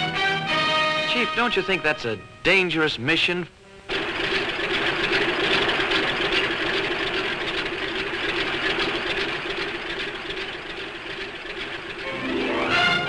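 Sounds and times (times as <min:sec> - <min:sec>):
propeller aeroplane engine droning: 0:00.0 - 0:13.0.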